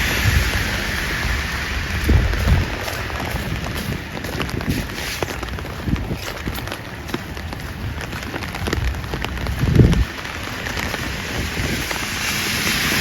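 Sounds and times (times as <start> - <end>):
car tyres hissing on wet road: 0.0 - 13.0
raindrops ticking on surface: 0.0 - 13.0.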